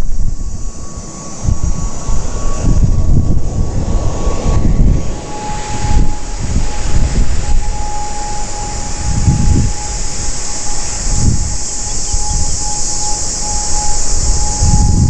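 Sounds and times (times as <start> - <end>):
turboprop engines whining: 0.0 - 15.0
wind buffeting microphone: 0.0 - 15.0.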